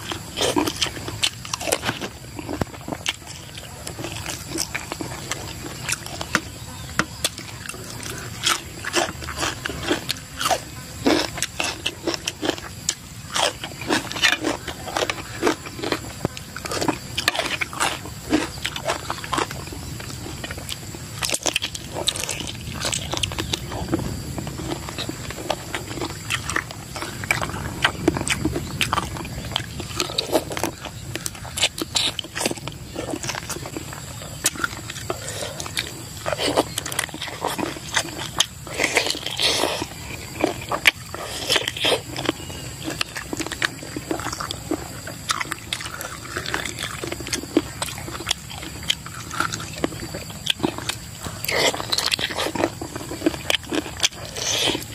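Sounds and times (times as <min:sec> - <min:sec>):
man chewing with mouth smacks: 0:00.0 - 0:54.9.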